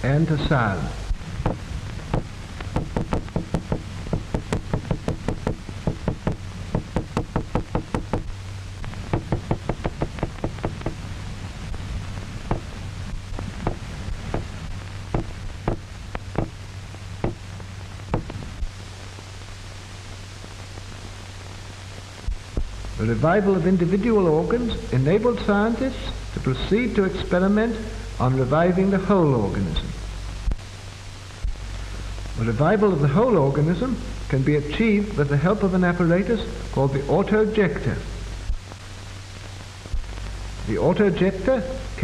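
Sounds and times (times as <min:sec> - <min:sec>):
steady low soundtrack hum: 0:00.0 - 0:42.0.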